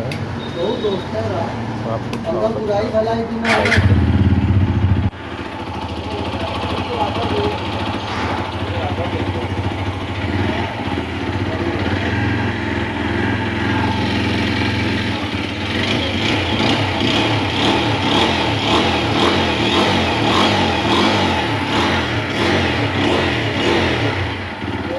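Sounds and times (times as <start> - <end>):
motorcycle engine running: 3.5 - 24.9.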